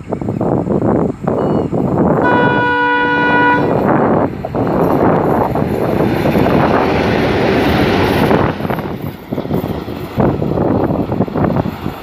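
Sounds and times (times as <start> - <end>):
wind on microphone: 0.0 - 12.0
locomotives passing: 1.8 - 12.0.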